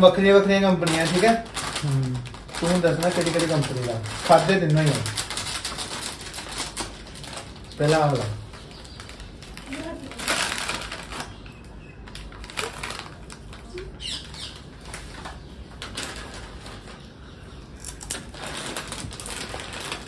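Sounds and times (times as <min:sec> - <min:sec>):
foil packets crinkling: 0:00.0 - 0:20.0.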